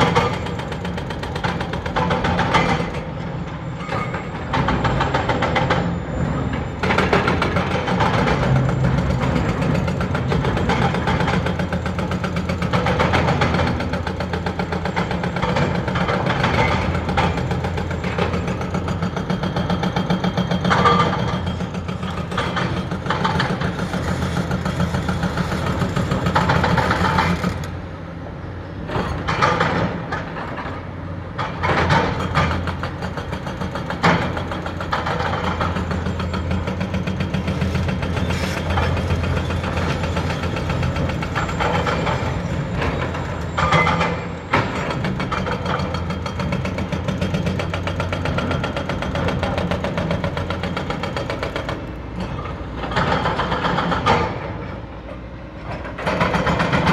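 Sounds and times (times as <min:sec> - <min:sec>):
excavator diesel engines running: 0:00.0 - 0:56.9.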